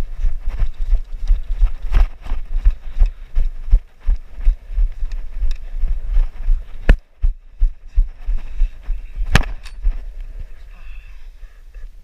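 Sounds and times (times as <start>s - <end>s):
running footsteps on ground: 0.0s - 11.3s.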